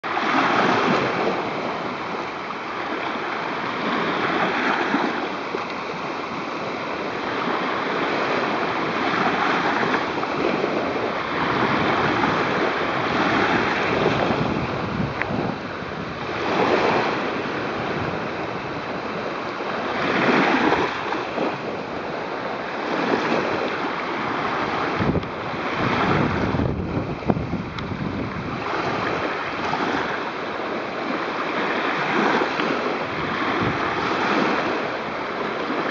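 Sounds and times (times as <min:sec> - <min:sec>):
small waves washing over sand: 0:00.0 - 0:35.9
wind buffeting microphone: 0:00.0 - 0:35.9.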